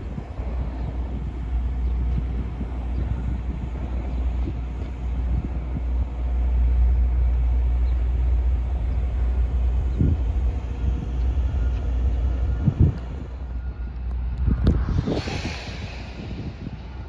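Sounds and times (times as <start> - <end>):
generator low rumble: 0.0 - 17.0
wind buffeting microphone: 0.0 - 17.0.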